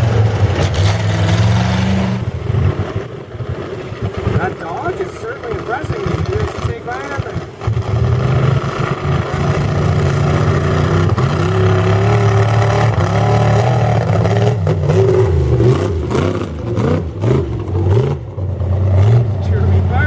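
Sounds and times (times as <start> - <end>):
large vehicle engine revving: 0.0 - 20.0.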